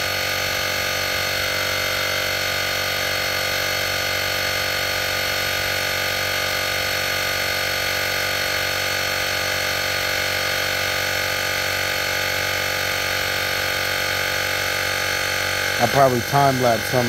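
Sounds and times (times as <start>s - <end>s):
air compressor running: 0.0s - 17.0s.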